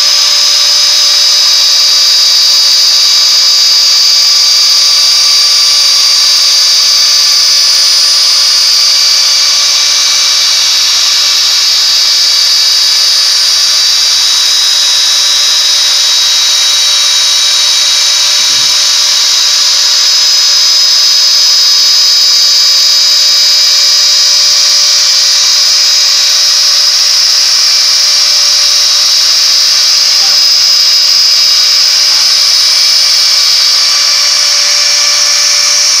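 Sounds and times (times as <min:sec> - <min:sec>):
router spindle high-pitched whine: 0:00.0 - 0:36.0.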